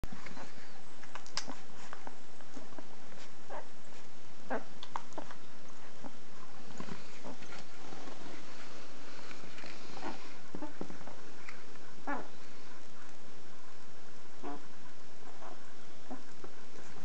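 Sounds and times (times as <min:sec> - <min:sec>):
faint steady hiss: 0:00.0 - 0:17.0
puppies squeaking and grunting: 0:00.2 - 0:13.1, 0:14.4 - 0:17.0.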